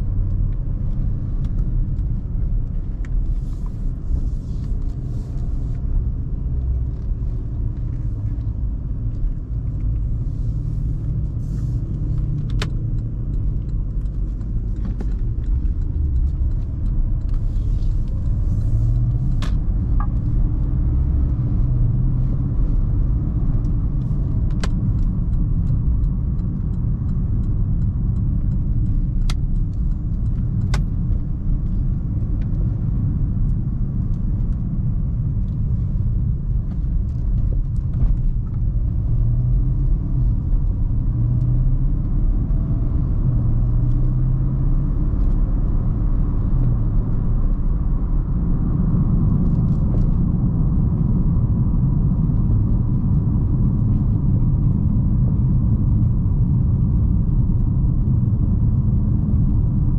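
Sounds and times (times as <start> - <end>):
car engine rumble: 0.0 - 59.9
tyre and road noise: 0.0 - 59.9.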